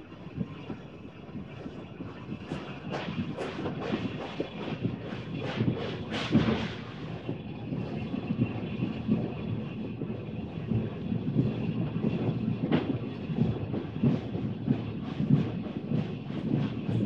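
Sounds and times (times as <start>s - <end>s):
steam train running: 0.0s - 17.0s.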